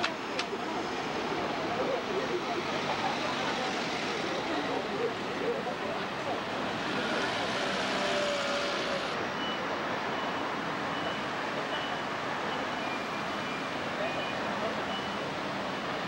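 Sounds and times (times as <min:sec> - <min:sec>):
traffic on a wet road: 0:00.0 - 0:16.0.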